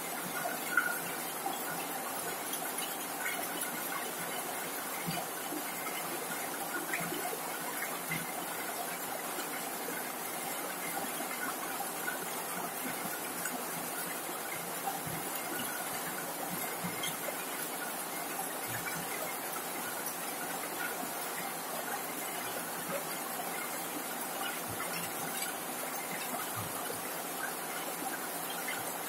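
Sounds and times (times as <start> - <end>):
heavy rain on a metal roof: 0.0 - 29.0.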